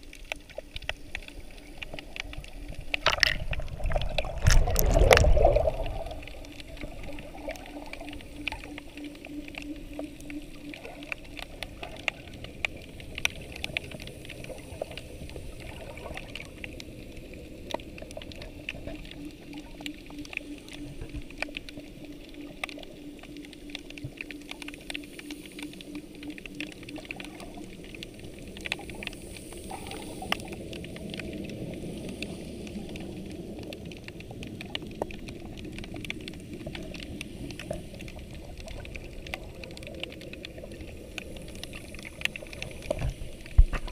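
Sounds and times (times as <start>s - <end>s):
low steady hum: 0.0s - 43.9s
sharp clicks and crackles: 0.0s - 43.9s
underwater wash: 0.0s - 43.9s.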